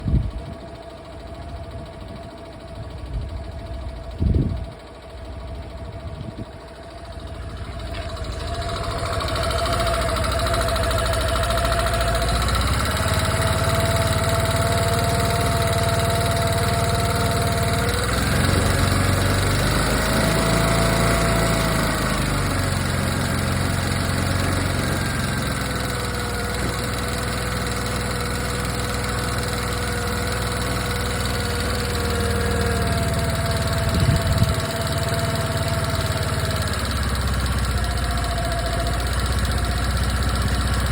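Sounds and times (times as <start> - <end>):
scooter engine idling: 0.0 - 40.9
thin whining tone: 0.0 - 40.9.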